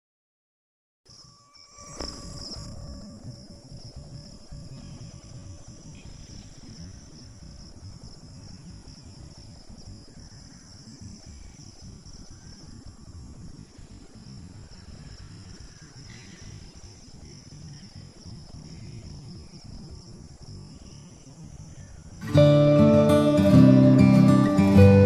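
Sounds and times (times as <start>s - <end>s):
insects droning: 1.1s - 25.0s.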